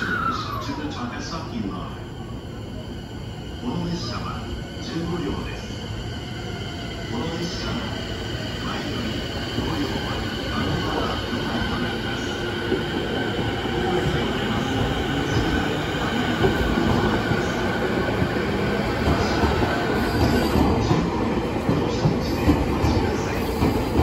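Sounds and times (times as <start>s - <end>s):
train wheels rumbling on rails: 4.0s - 24.0s.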